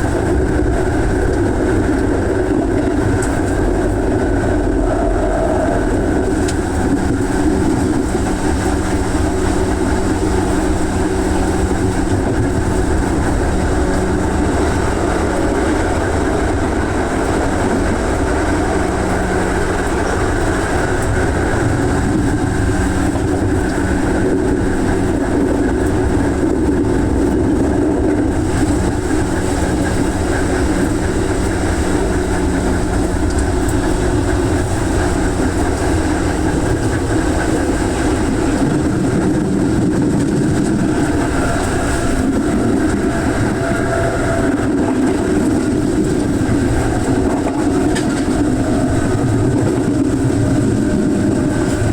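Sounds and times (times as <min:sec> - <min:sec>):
low motor hum: 0:00.0 - 0:51.9
train wheels rumbling on rail: 0:00.0 - 0:51.9.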